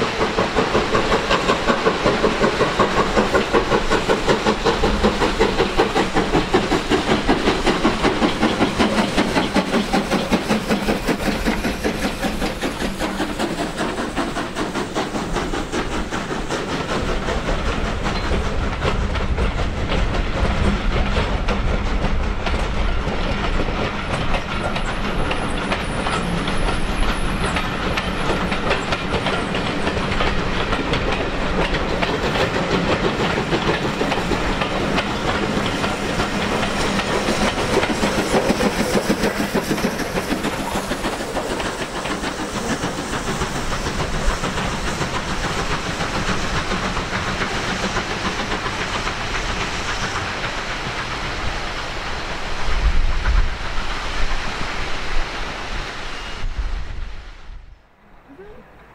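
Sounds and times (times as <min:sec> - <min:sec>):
train wheels clicking over rail joints: 0:00.0 - 0:55.3
steam hissing: 0:00.0 - 0:58.9
steam locomotive exhaust: 0:00.0 - 0:58.9.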